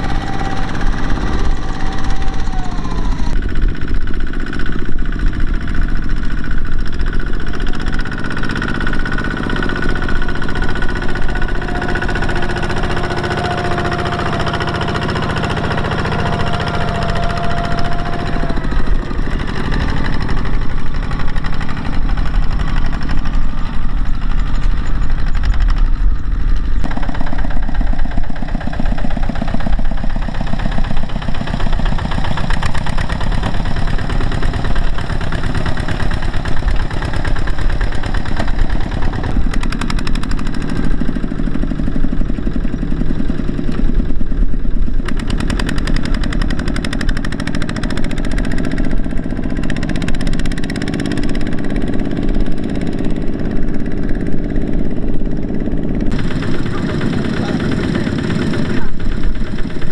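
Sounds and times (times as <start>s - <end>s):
diesel tractor engine putter: 0.0s - 44.2s, 44.9s - 59.9s.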